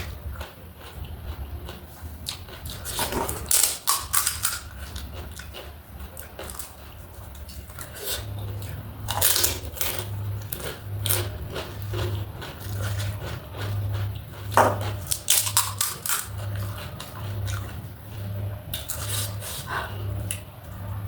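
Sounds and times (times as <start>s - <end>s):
chewing crunchy snack: 0.0s - 20.5s.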